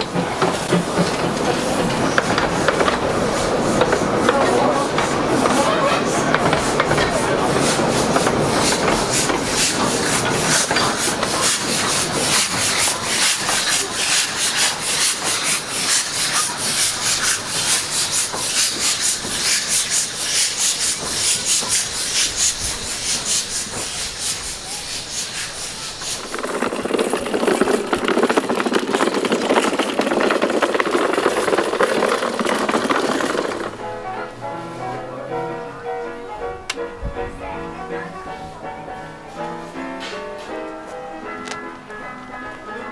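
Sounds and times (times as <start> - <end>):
dull steady train noise: 0.0 - 42.9
steam train running: 0.0 - 42.9.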